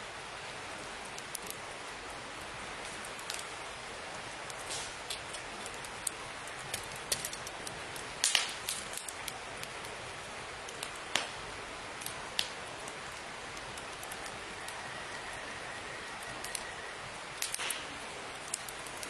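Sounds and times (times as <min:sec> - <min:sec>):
campfire crackling and popping: 0:00.1 - 0:19.0.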